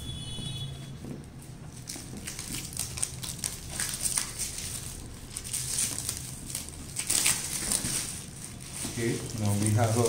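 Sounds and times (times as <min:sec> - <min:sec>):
plastic wrapping crinkling: 0:01.0 - 0:10.0.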